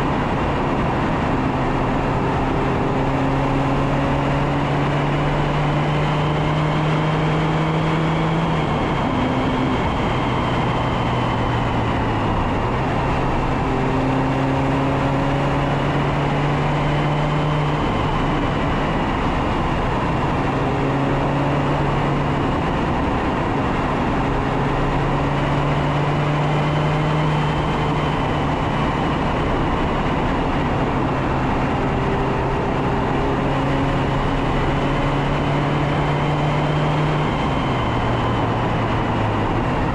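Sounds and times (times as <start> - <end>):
car engine accelerating: 0.0 - 39.9
wind rushing over microphone: 0.0 - 39.9.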